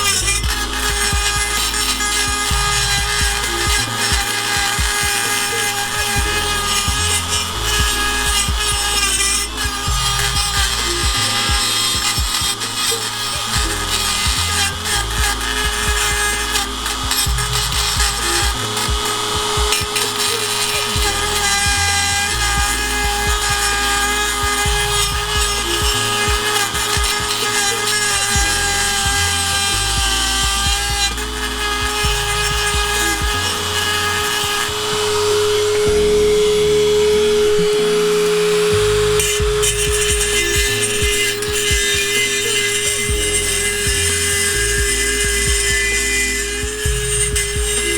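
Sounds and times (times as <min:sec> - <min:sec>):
background music with bassline: 0:00.0 - 0:47.9
rotary tool grinding metal: 0:00.0 - 0:47.9.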